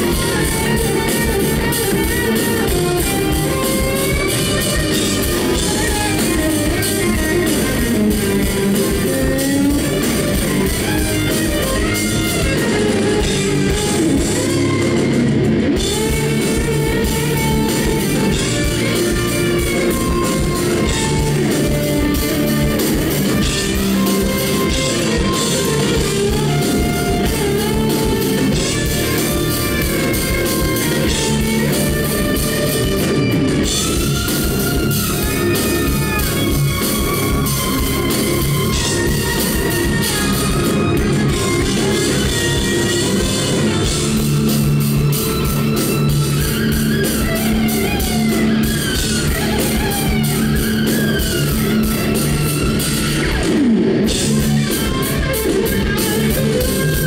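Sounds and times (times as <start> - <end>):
bass guitar: 0.0 - 57.0
drum kit: 0.0 - 57.0
electric lead guitar melody: 0.0 - 57.0.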